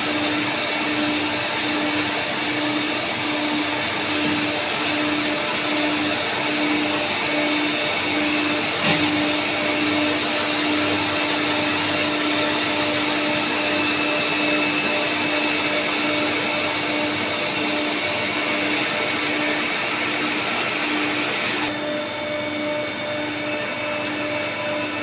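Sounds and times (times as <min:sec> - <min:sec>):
drilling machine whir: 0:00.0 - 0:25.0.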